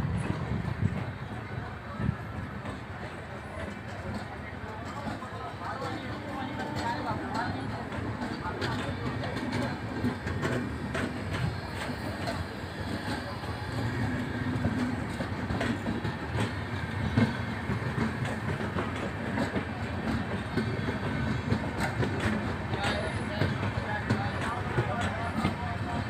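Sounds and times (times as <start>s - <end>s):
train coaches rumbling past: 0.0s - 26.0s
wheels clicking over rail joints: 0.1s - 26.0s.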